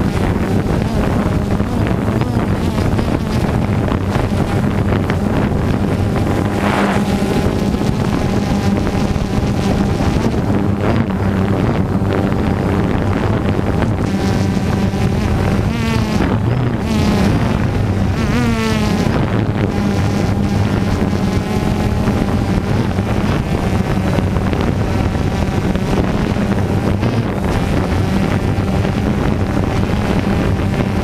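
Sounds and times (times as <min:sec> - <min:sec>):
drone propellers buzzing: 0:00.0 - 0:31.0
wind on microphone: 0:00.0 - 0:31.0.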